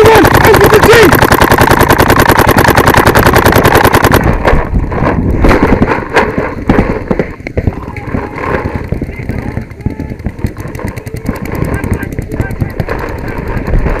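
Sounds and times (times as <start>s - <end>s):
paintball marker rapid firing: 0.0s - 14.0s.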